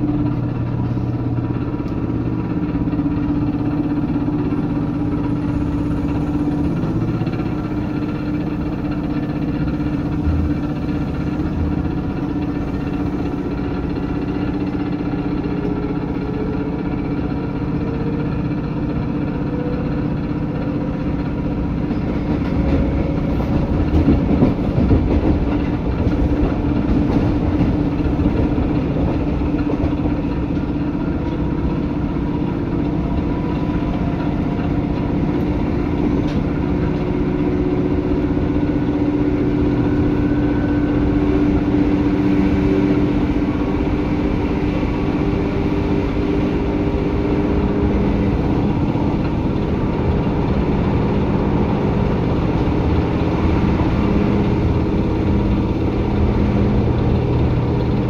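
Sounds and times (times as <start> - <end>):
droning motor hum: 0.0 - 58.0
train rumble: 0.0 - 58.0.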